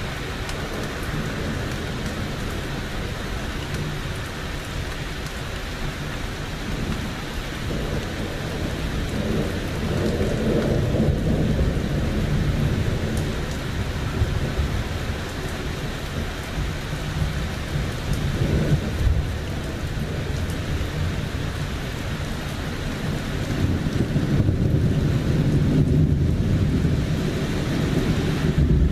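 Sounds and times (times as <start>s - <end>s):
thunder rumbling: 0.0s - 4.9s, 5.8s - 28.9s
steady rain: 0.0s - 28.9s.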